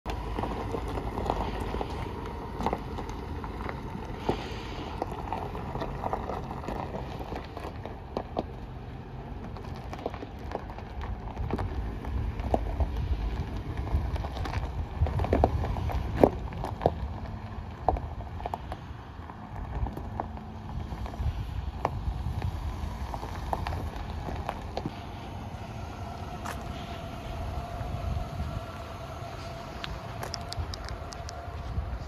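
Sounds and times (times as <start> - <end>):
low engine rumble: 0.0 - 32.0
tyres crunching on gravel: 0.1 - 32.0.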